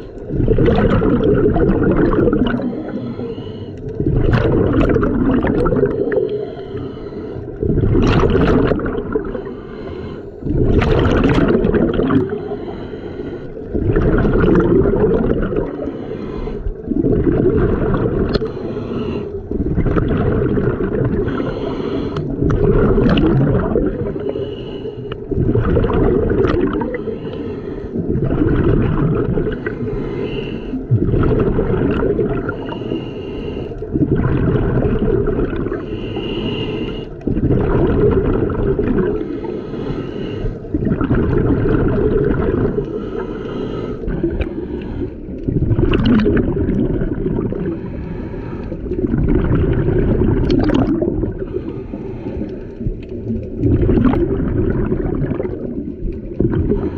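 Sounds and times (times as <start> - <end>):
diver inhaling through regulator: 0.0 - 46.4, 47.4 - 49.2, 50.8 - 53.0, 56.6 - 56.9
diver bubbling exhale: 0.0 - 56.9.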